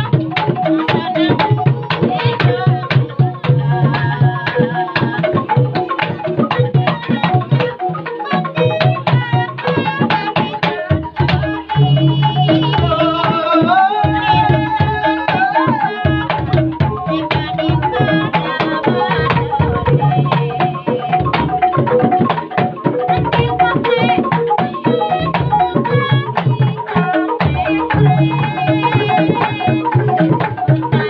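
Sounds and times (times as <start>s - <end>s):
bamboo xylophones playing: 0.0s - 31.0s
hand drums: 0.0s - 31.0s
wavering held melody: 0.0s - 31.0s.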